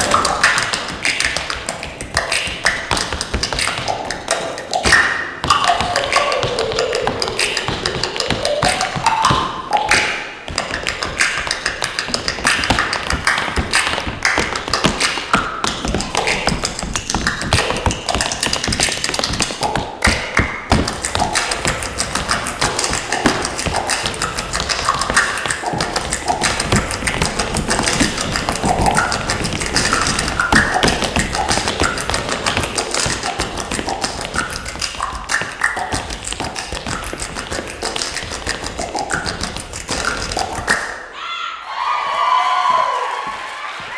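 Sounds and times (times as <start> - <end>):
tap shoes on stage floor: 0.0 - 9.5, 10.5 - 40.8
recorded backing music: 0.0 - 41.1.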